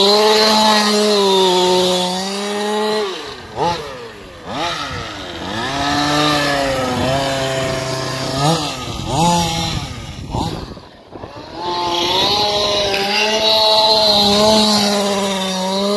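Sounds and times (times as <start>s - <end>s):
two-stroke engine revving: 0.0s - 15.9s.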